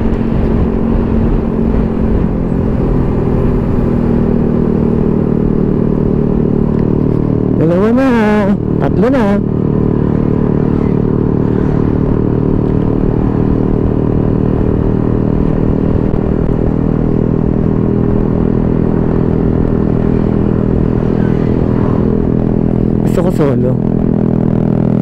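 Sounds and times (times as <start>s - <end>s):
low wind rumble: 0.0s - 25.0s
motorcycle engine cruising: 0.0s - 25.0s.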